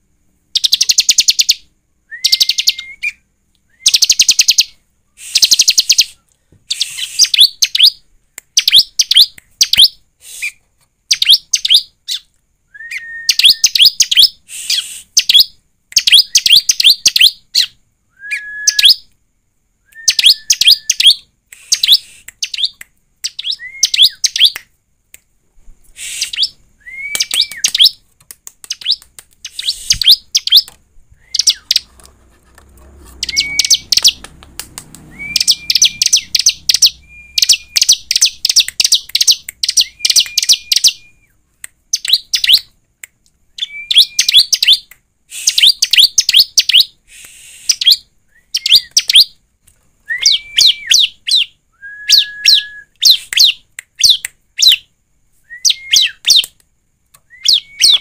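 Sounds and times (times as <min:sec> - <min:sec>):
bird singing rapid high chirps: 0:00.5 - 0:19.1, 0:20.0 - 0:24.6, 0:25.9 - 0:28.0, 0:28.6 - 0:31.9, 0:33.1 - 0:42.8, 0:43.6 - 0:49.4, 0:50.1 - 0:54.9, 0:55.6 - 0:56.5, 0:57.2 - 0:58.0.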